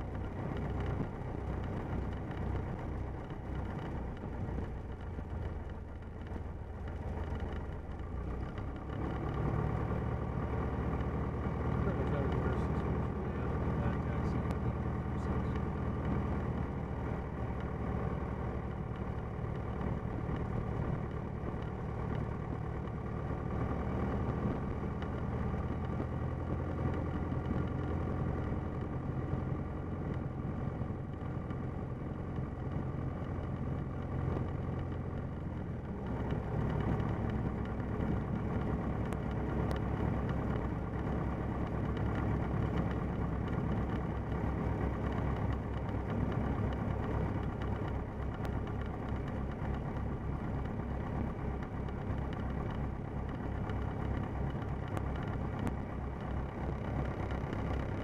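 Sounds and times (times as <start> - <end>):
light aircraft piston engine: 0.0 - 58.0.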